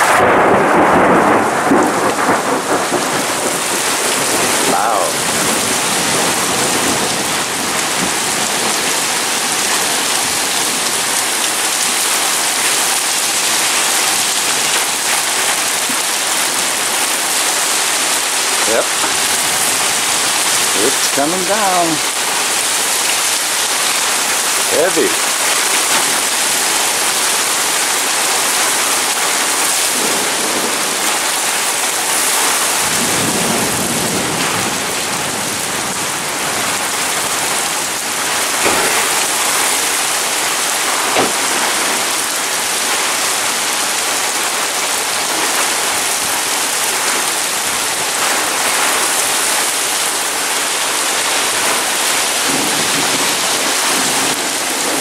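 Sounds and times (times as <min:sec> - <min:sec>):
heavy rain on pavement and cars: 0:00.0 - 0:55.0.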